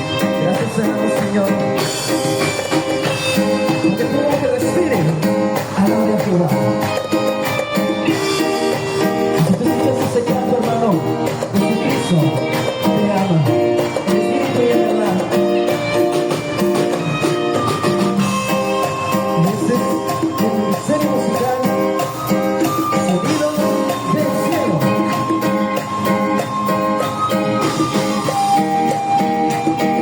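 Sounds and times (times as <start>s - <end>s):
bass line: 0.0s - 30.0s
live band playing latin dance music: 0.0s - 30.0s
plucked guitar: 0.0s - 30.0s
steady percussion: 0.0s - 30.0s.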